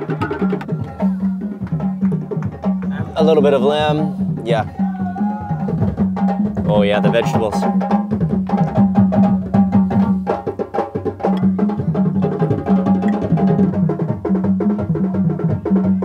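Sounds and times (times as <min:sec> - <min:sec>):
deep drum tone: 0:00.0 - 0:16.0
drums in fast rhythm: 0:00.0 - 0:16.0.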